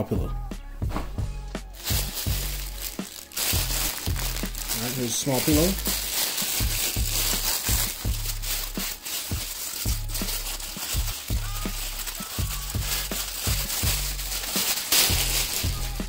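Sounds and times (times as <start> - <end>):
music with bass-heavy beat: 0.2 - 16.0.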